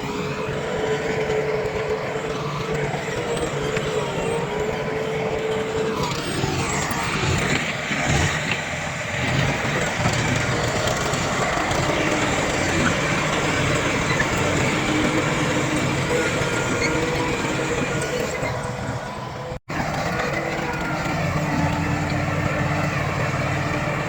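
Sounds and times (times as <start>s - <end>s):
heavy diesel machinery engines: 0.0s - 24.0s.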